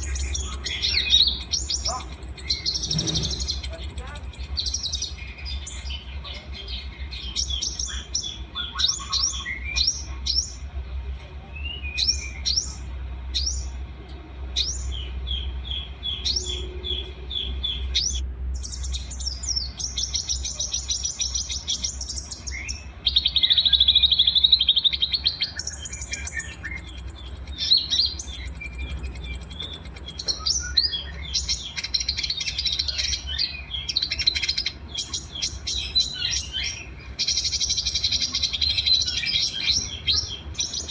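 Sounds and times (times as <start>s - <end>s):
songbirds singing: 0.0s - 40.9s
steady low hum: 0.0s - 40.9s.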